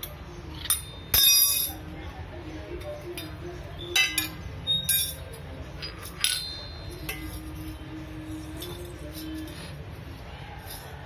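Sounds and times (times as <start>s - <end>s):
metal utensils clinking on floor: 0.0s - 2.0s, 2.8s - 9.8s, 10.6s - 11.0s.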